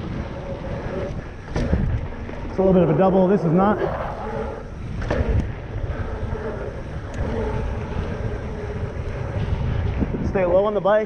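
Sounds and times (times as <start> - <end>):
bike clicks and rattles: 0.0 - 3.7, 4.4 - 11.0
tyres rumbling on dirt: 0.0 - 11.0
wind buffeting microphone: 0.0 - 11.0.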